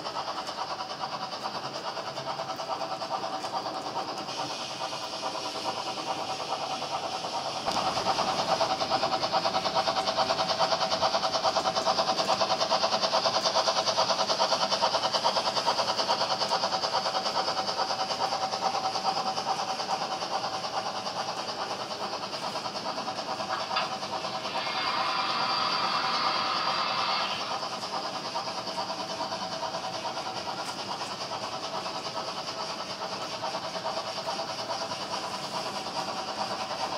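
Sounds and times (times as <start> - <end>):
model train wheels clattering: 0.0 - 36.9.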